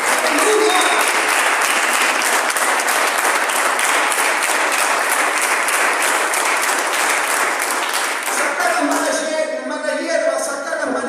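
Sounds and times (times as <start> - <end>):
congregation applauding: 0.0 - 9.4.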